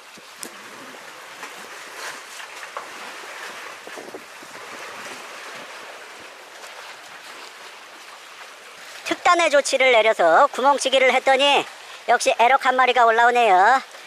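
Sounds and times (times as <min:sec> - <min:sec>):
seawater sloshing and splashing: 0:00.0 - 0:14.0.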